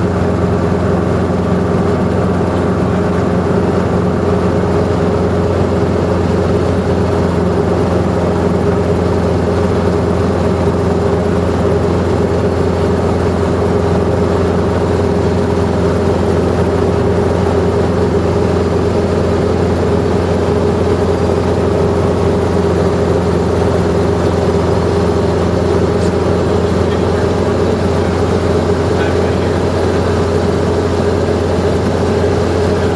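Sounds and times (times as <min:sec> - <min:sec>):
helicopter engine and rotor: 0:00.0 - 0:32.9.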